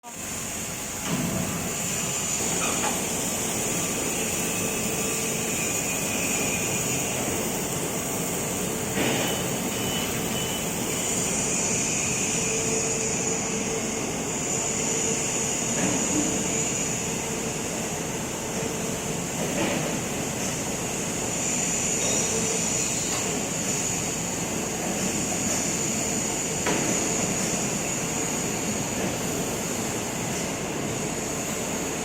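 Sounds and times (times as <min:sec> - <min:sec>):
industrial machinery running: 0:00.0 - 0:32.0
high machine whine: 0:00.2 - 0:32.0.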